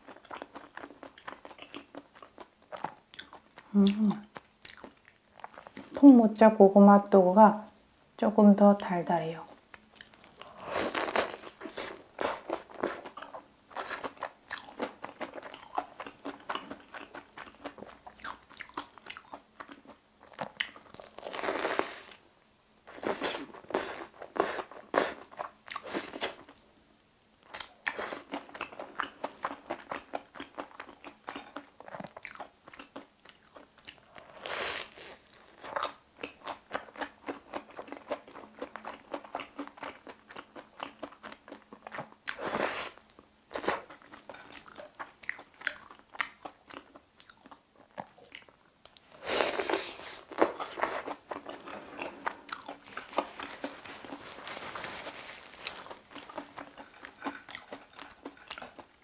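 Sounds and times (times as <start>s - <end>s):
crunching and chewing: 0.0s - 6.0s, 9.7s - 22.2s, 22.8s - 26.7s, 27.4s - 59.0s.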